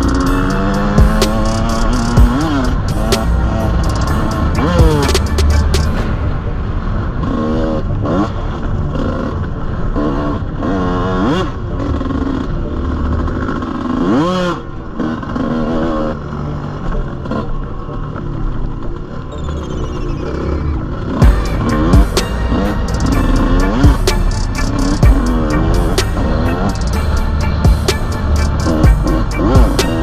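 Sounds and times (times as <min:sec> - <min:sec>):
small engine revving: 0:00.0 - 0:06.2, 0:07.2 - 0:30.0.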